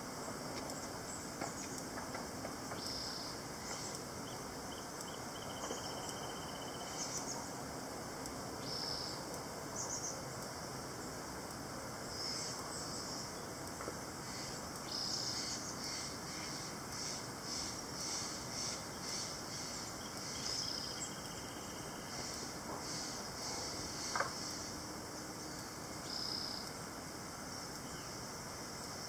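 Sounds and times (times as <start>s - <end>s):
cicadas buzzing: 0.0s - 29.0s
steady outdoor hiss: 0.0s - 29.0s.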